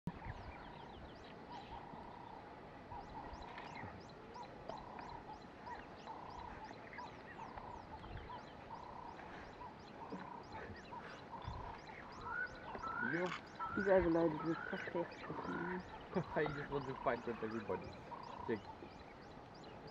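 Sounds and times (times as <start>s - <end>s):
frogs and birds calling: 0.1s - 19.9s.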